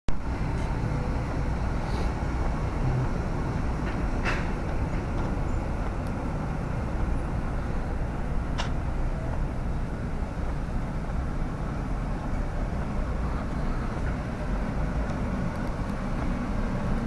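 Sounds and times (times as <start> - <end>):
low rumble and hiss: 0.2 - 17.0.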